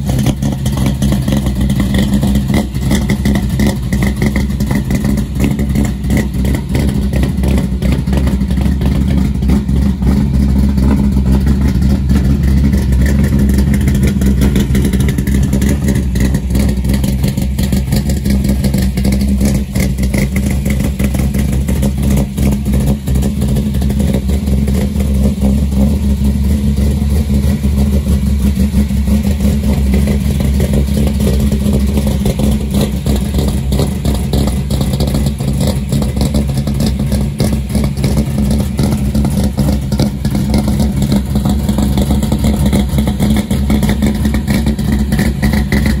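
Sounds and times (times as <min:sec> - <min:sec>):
pickup engine idling: 0:00.0 - 0:46.0.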